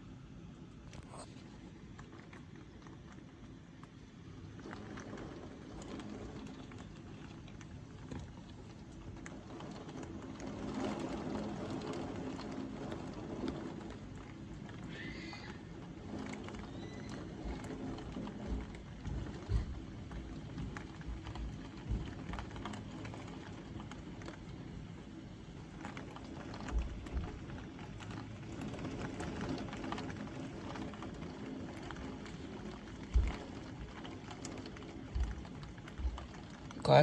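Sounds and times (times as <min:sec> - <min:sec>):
heavy rain falling: 0:04.4 - 0:37.0.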